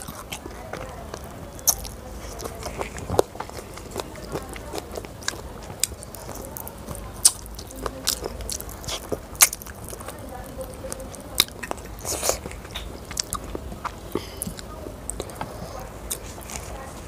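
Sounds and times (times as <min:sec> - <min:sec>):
wet mouth clicks: 0:00.0 - 0:10.2, 0:10.8 - 0:16.6
close chewing: 0:00.0 - 0:17.0.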